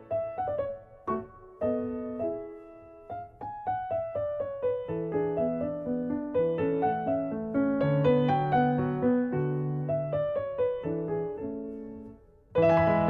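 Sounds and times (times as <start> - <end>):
solo piano: 0.0 - 13.0.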